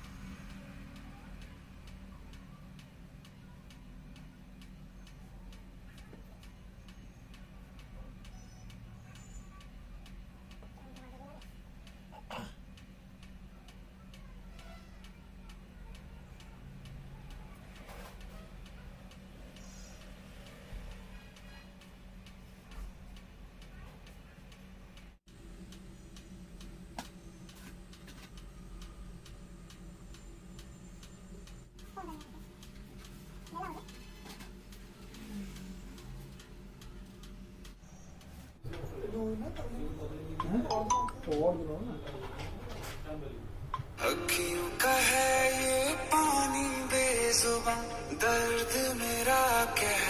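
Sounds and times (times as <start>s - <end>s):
steady ticking: 0.0s - 41.5s
low background hum: 0.0s - 50.0s.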